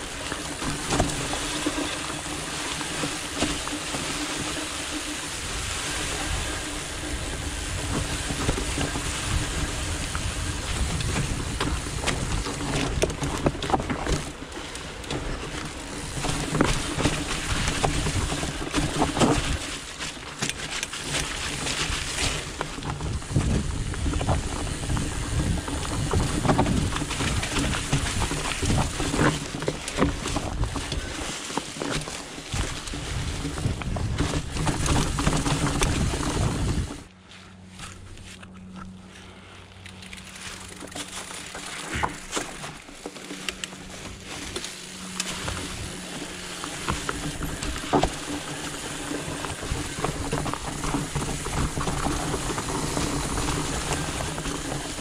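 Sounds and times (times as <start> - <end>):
bike knocks and rattles: 0.0 - 37.1, 39.8 - 55.0
wind rumble on microphone: 0.0 - 37.1, 43.7 - 55.0
bike tyre noise: 0.0 - 55.0.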